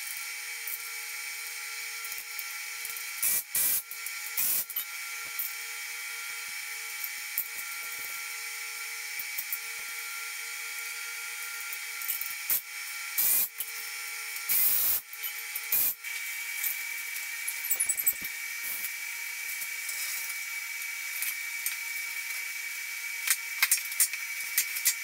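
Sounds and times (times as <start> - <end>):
steady background hum: 3.2 - 25.0.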